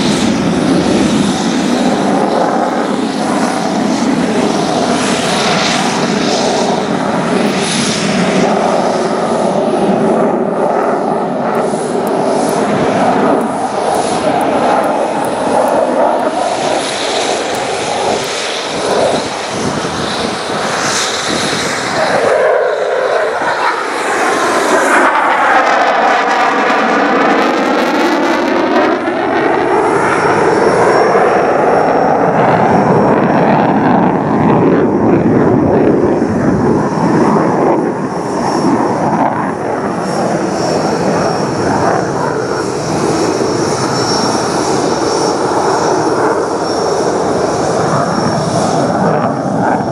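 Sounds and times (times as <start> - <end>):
jet flying overhead: 0.0 - 49.9.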